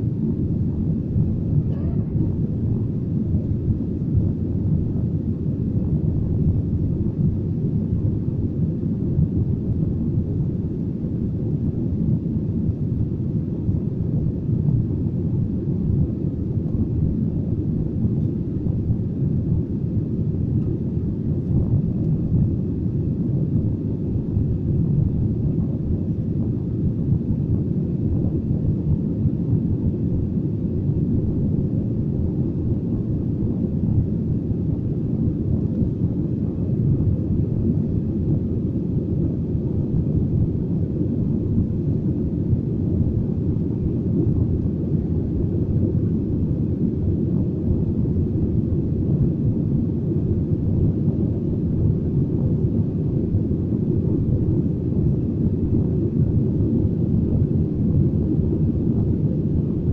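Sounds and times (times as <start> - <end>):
low rumble of aircraft engines: 0.0 - 59.9.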